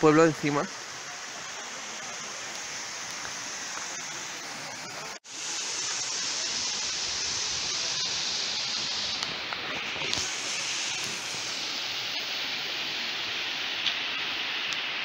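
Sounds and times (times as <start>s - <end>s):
water rushing over cascades: 0.0s - 15.0s.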